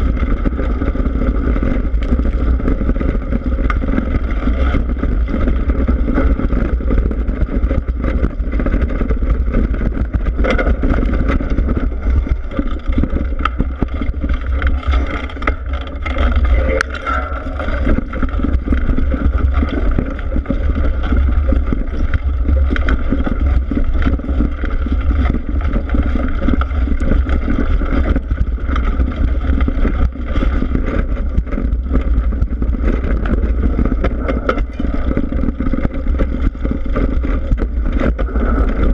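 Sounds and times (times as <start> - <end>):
tyre rumbling over dirt trail: 0.0 - 38.9
wind buffeting camera: 0.0 - 38.9.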